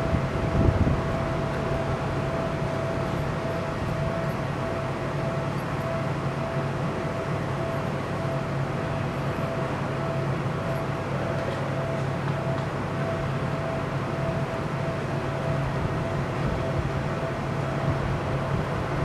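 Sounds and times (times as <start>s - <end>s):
constant whine: 0.0s - 19.0s
electric train hum: 0.0s - 19.0s.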